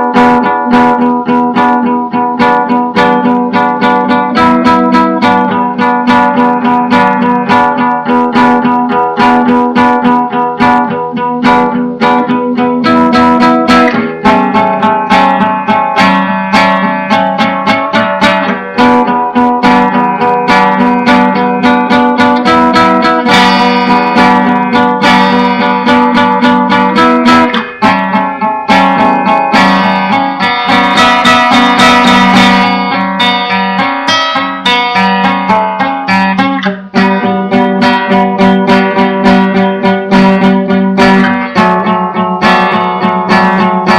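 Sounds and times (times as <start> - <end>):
acoustic guitar playing: 0.0 - 43.9.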